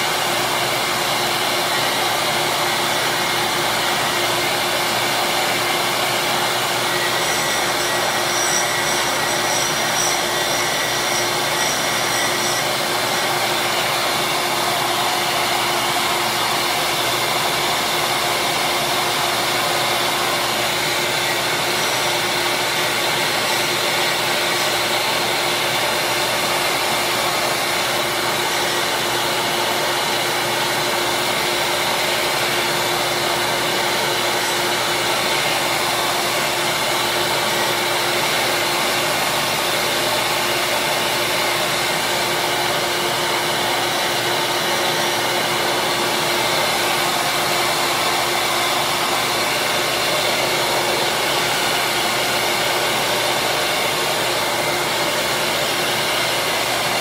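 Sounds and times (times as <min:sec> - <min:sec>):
disc sander motor whirring: 0:00.1 - 0:57.0.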